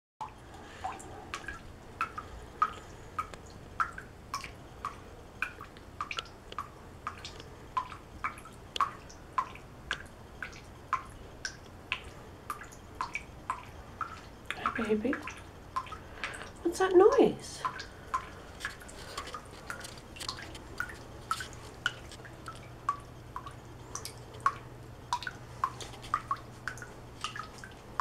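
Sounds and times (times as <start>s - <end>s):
water dripping into sink: 0.2s - 28.0s.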